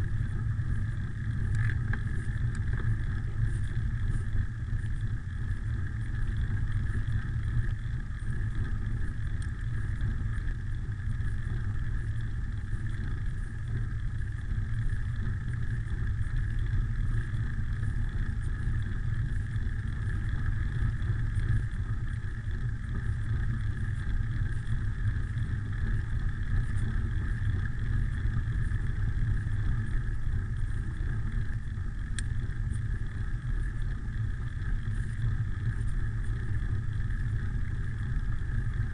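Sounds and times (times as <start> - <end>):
bicycle tyres rolling on asphalt: 0.0 - 38.9
wind rumble on microphone: 0.0 - 38.9.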